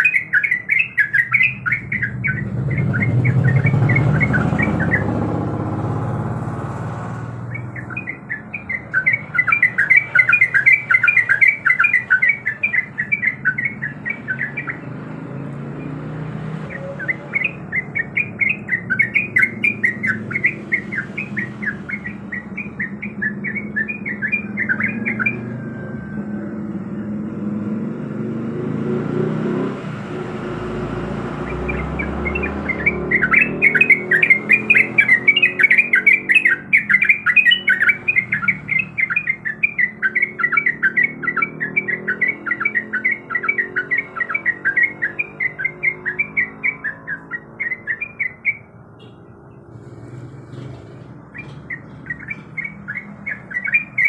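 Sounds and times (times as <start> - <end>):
bird chattering song: 0.0 - 6.4, 7.4 - 27.1, 30.4 - 54.0.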